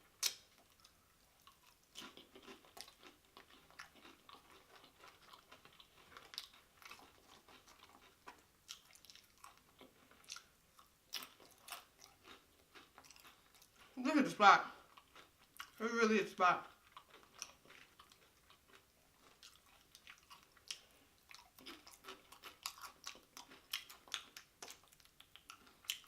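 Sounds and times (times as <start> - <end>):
person chewing crunchy chips: 0.1 - 15.9, 16.7 - 26.0.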